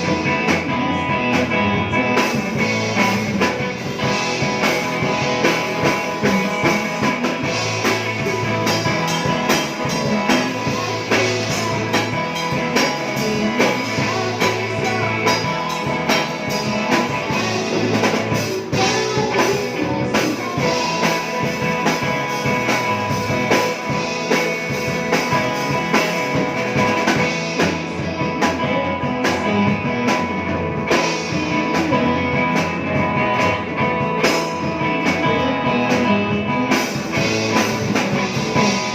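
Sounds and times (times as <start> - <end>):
bass guitar: 0.0 - 38.9
drum kit beat: 0.0 - 38.9
electric guitar: 0.0 - 38.9.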